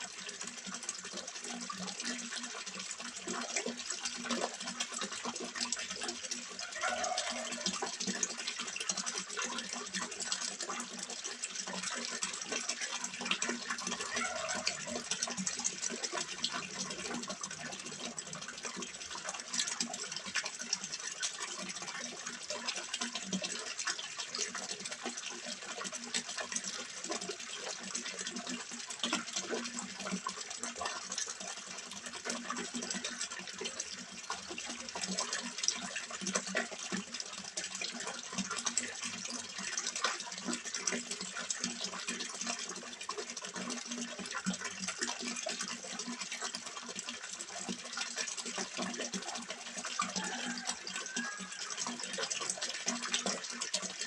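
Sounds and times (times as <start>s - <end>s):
water trickling into pond: 0.0s - 54.0s.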